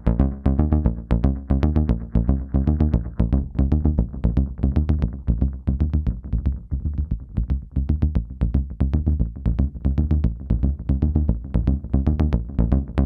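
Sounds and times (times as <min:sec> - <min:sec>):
synth bass line with echo: 0:00.0 - 0:13.0.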